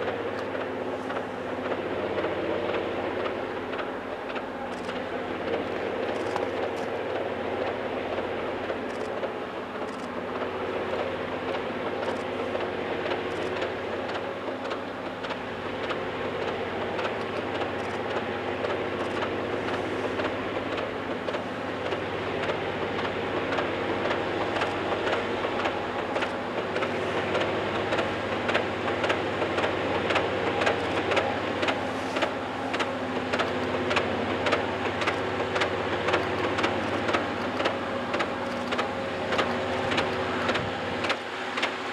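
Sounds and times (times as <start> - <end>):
diesel locomotive engine drone: 0.0 - 41.9
rapid clatter of sharp clicks: 0.0 - 41.9.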